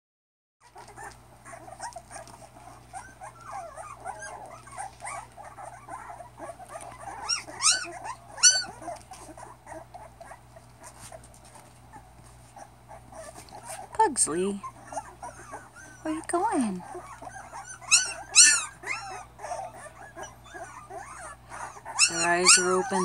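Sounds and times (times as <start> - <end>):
puppy yelps: 0.6 - 13.9, 14.6 - 23.0
puppies squeaking and whimpering: 0.6 - 23.0.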